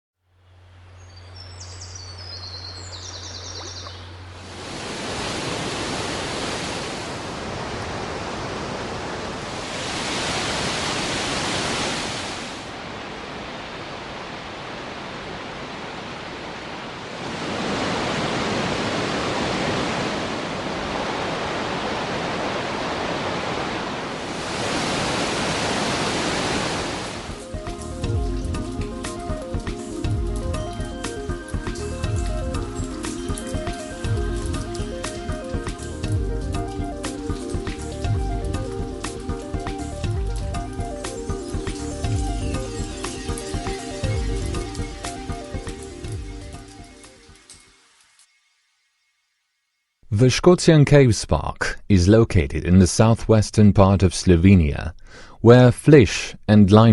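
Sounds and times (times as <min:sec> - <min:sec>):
rushing water: 0:00.6 - 0:48.0.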